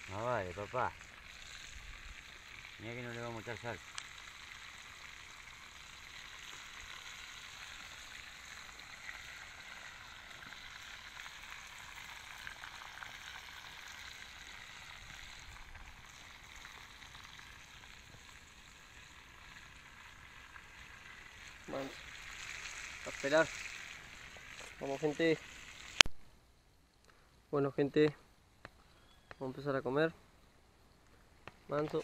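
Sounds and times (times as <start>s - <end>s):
fish sizzling in oil: 0.0s - 26.2s
oil popping: 0.0s - 26.2s.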